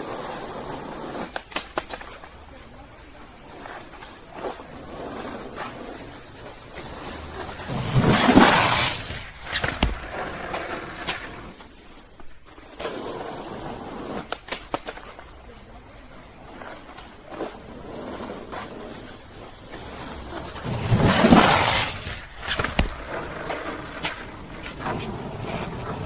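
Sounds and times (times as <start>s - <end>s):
skateboard clacking on ground: 0.0s - 15.7s, 16.6s - 26.0s
skateboard wheels rolling: 0.0s - 26.0s.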